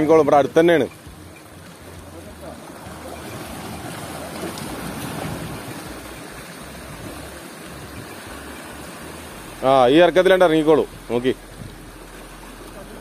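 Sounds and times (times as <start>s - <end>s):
sea waves splashing against rocks: 0.0s - 13.0s.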